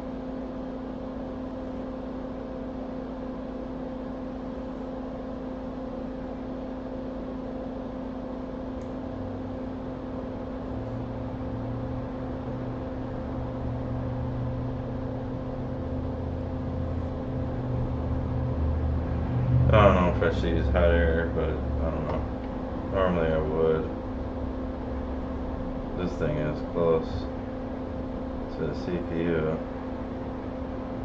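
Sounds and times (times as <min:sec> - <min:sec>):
whirring fan motor hum: 0:00.0 - 0:31.0.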